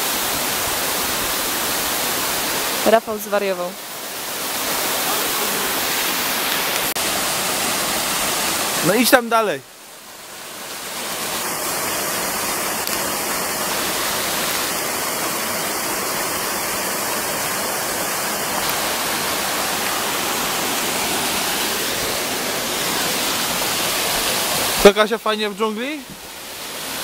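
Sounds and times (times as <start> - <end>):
rocky stream running: 0.0 - 27.0
small waterfall rushing into pool: 0.0 - 27.0.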